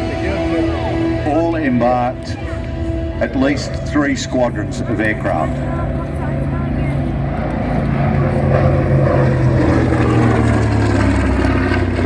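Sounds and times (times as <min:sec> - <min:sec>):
aircraft radial engine flying past: 0:00.0 - 0:12.0.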